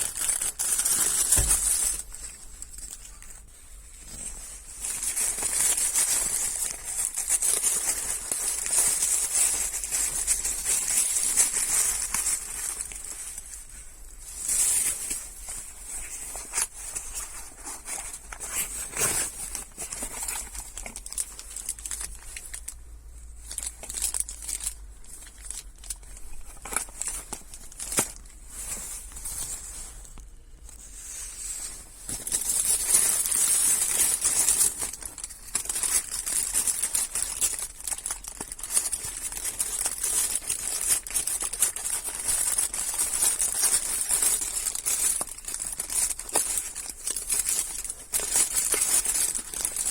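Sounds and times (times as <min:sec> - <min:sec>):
hands rustling and crinkling: 0:00.0 - 0:49.9.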